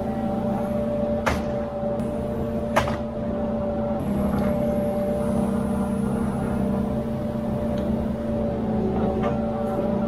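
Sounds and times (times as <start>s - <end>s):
diesel engine and hydraulics humming: 0.0s - 10.0s.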